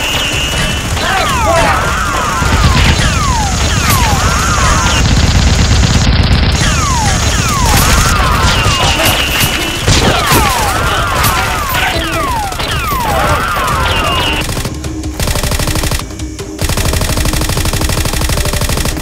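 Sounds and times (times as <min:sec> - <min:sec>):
background music: 0:00.0 - 0:06.0, 0:06.6 - 0:19.0
gunshots volley: 0:00.0 - 0:19.0
machine-gun burst: 0:00.0 - 0:19.0.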